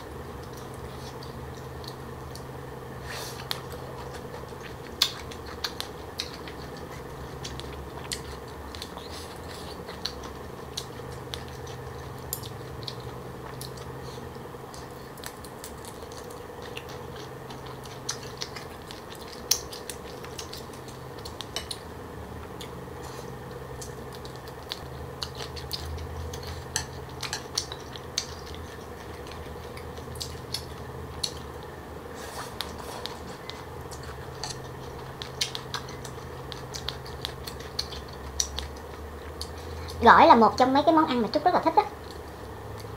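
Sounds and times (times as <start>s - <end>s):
steady low hum: 0.0s - 42.9s
crunchy chewing: 0.3s - 40.0s.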